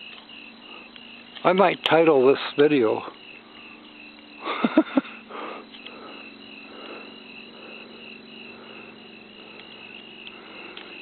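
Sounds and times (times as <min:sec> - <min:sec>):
crickets chirping: 0:00.0 - 0:11.0
faint low hum: 0:00.0 - 0:11.0.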